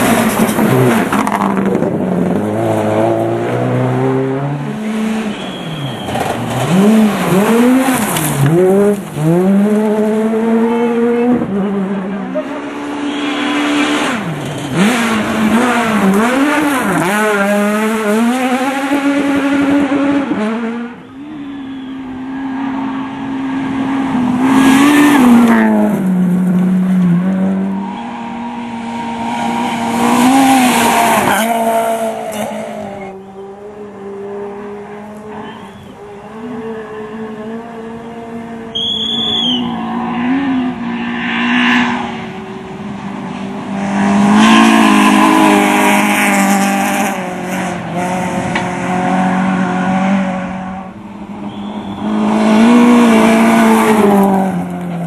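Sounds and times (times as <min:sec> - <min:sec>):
rally car engines revving past: 0:00.0 - 0:55.0.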